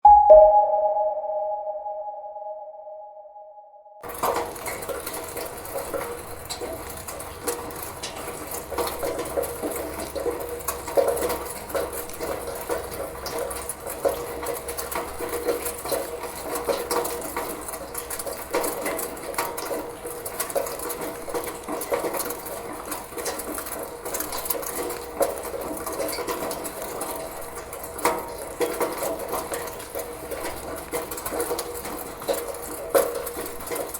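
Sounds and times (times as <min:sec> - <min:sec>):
rainwater running through gutter: 0:04.0 - 0:33.9
water splashes and drips: 0:04.1 - 0:33.9.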